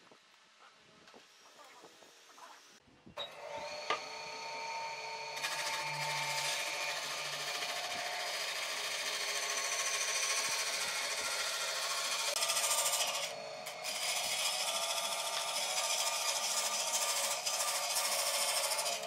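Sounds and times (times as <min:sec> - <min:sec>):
power tool whining: 0:03.2 - 0:19.0.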